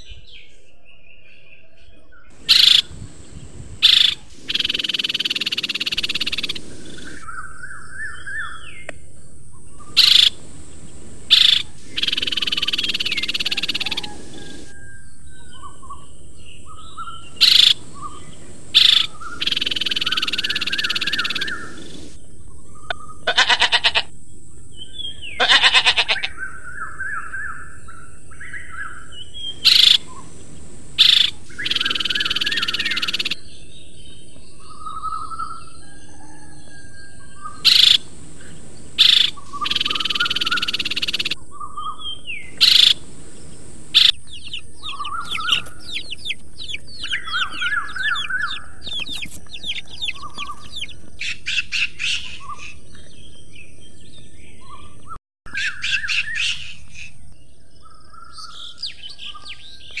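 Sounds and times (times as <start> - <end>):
small birds chirping: 2.3 - 23.0, 26.7 - 35.8, 36.4 - 60.0.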